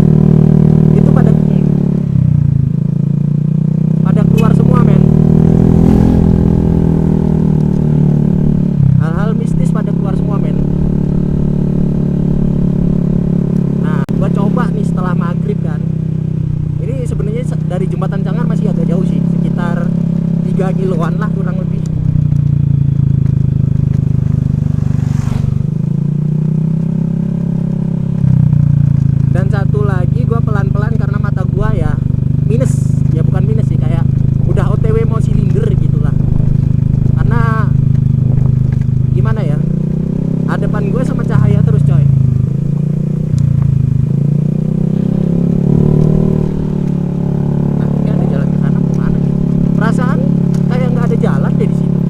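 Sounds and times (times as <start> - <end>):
scooter engine running: 0.0 - 52.0.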